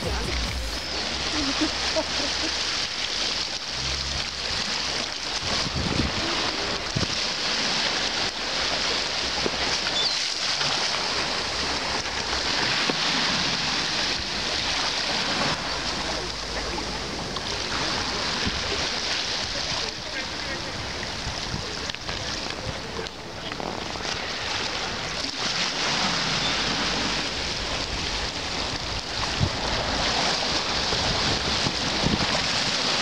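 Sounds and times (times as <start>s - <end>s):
waves splashing against stone: 0.0s - 33.0s
wind rumbling on microphone: 0.0s - 33.0s.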